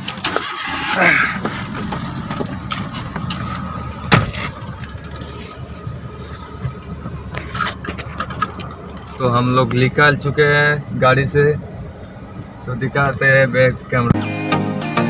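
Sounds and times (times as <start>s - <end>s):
car engine rumble inside cabin: 0.0s - 14.2s.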